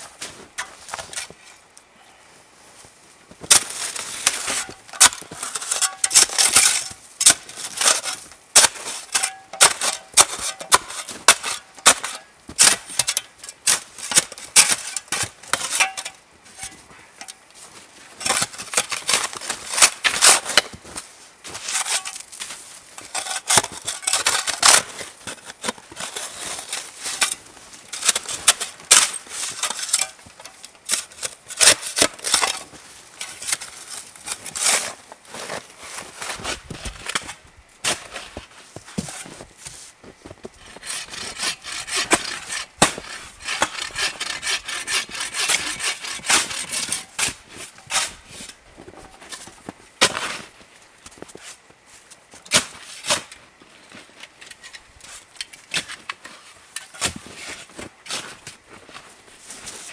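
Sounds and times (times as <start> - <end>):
snow shovel scraping crusted snow: 0.0 - 1.5, 2.6 - 17.0, 17.6 - 54.2, 55.0 - 59.9.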